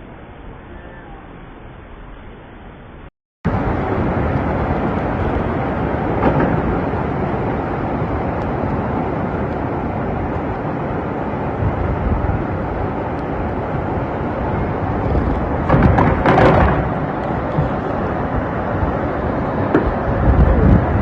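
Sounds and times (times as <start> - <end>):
loud rushing noise: 3.5 - 21.0.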